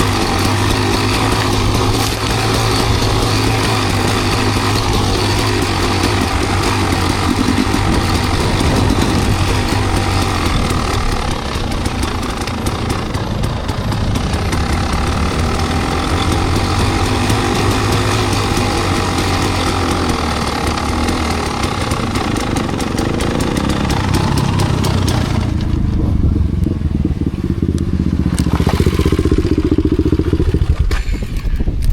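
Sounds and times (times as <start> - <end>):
dirt bike engine running: 0.0 - 31.9.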